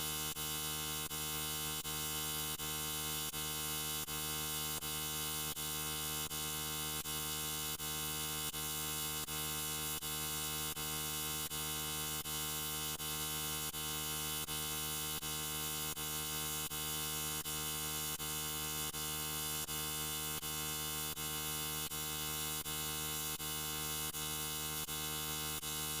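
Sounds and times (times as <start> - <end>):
steady electric buzz: 0.0 - 26.0.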